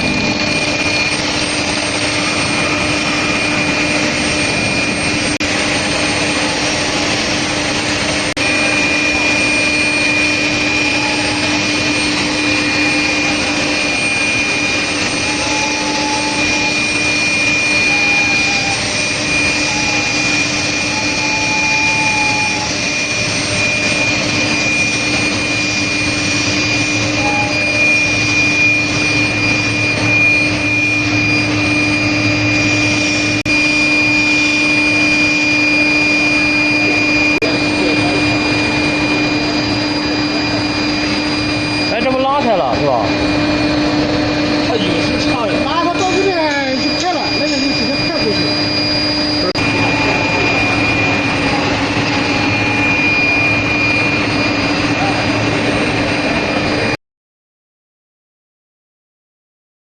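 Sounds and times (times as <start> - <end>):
high industrial whine: 0.0 - 57.0
low industrial hum: 0.0 - 57.0.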